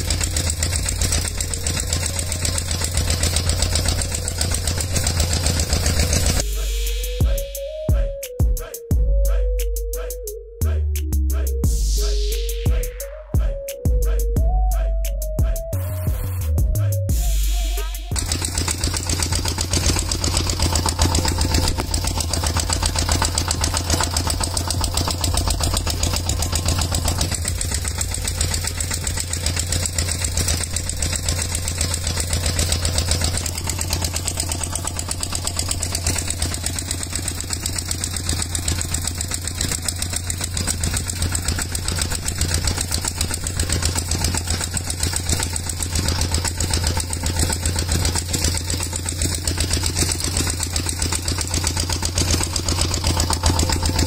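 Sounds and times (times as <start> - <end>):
engine idling: 0.0 - 7.8, 15.8 - 54.0.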